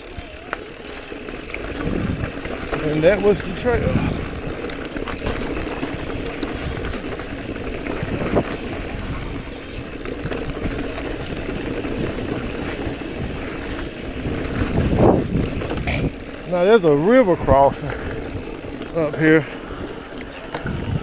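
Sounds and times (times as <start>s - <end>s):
bike tyres rumbling on dirt: 0.0s - 21.0s.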